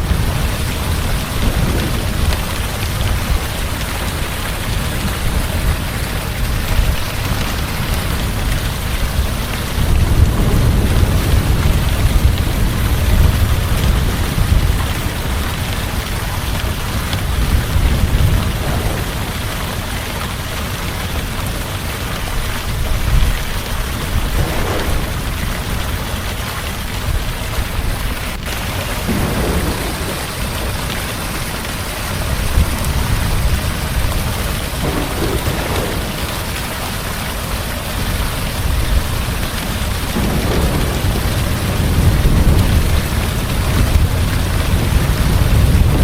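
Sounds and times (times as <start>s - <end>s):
heavy rain hissing: 0.0s - 46.0s
low rolling thunder: 0.0s - 46.0s.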